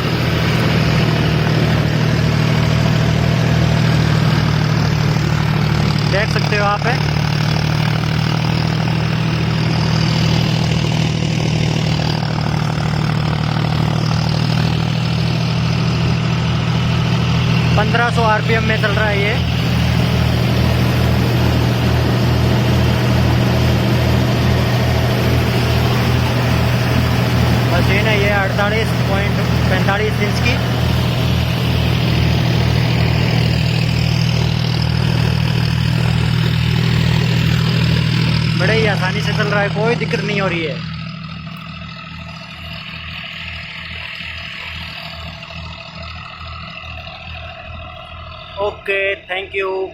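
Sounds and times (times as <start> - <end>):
thresher machinery drone: 0.0 - 49.9
tractor diesel engine running: 0.0 - 49.9.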